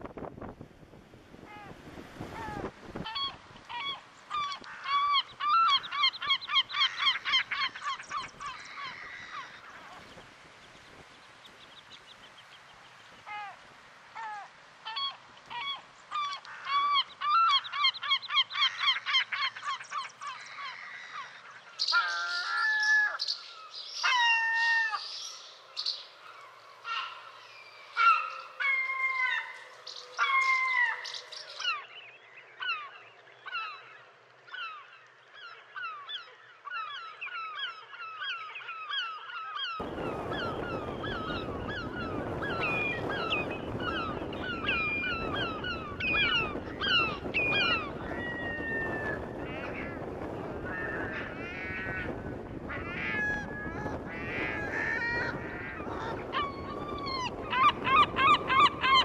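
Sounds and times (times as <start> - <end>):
wavering falling bird calls: 1.5 - 13.6, 14.2 - 59.0.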